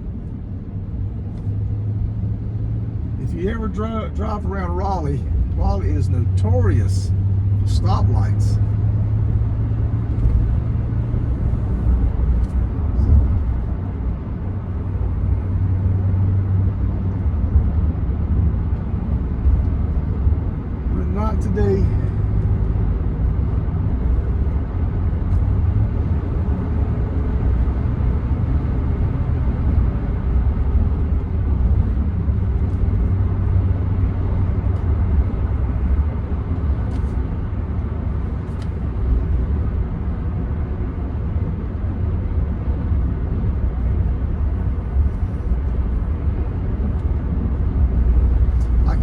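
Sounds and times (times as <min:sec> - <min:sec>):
pickup cabin engine and road drone: 0:00.0 - 0:49.0.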